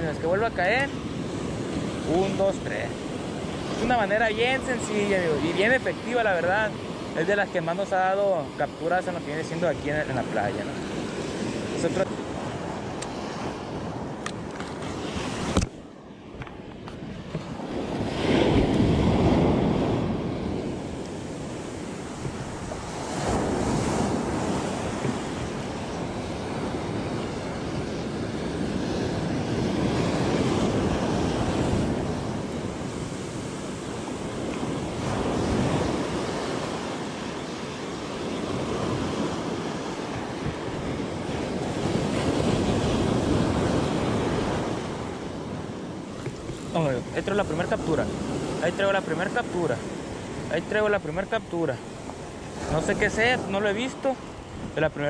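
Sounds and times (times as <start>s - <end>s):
ocean surf breaking: 0.0s - 55.0s
wind buffeting microphone: 9.5s - 55.0s.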